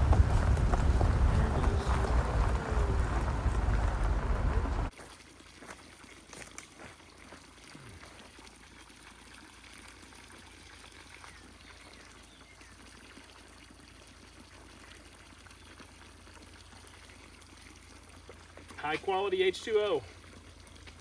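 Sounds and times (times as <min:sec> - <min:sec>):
water trickling: 0:00.0 - 0:21.0.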